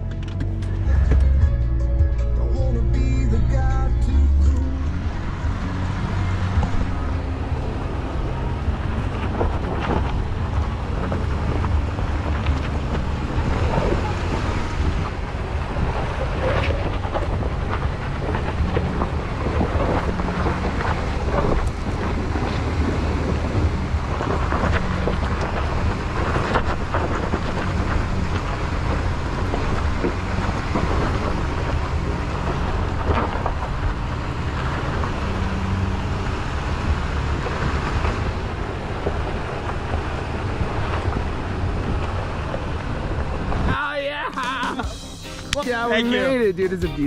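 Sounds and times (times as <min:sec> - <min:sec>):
wind noise on microphone: 0:00.0 - 0:44.2
vehicle engine running: 0:00.0 - 0:47.0.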